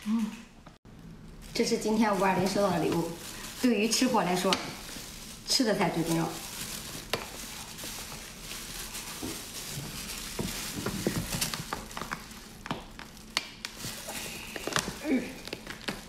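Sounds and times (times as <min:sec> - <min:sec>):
plastic gloves crinkling: 0:00.9 - 0:16.0.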